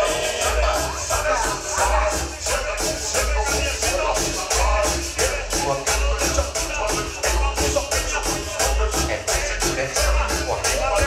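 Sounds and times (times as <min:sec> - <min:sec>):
latin dance music: 0:00.0 - 0:11.0.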